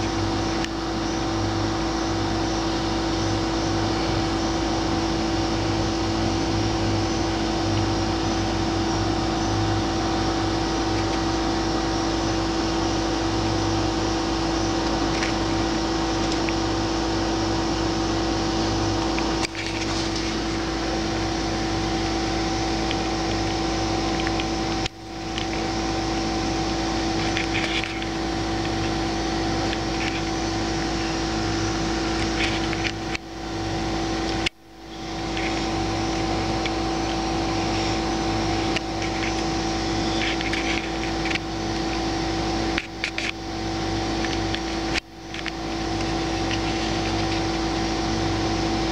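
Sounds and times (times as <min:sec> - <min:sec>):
mechanical hum: 0:00.0 - 0:48.9.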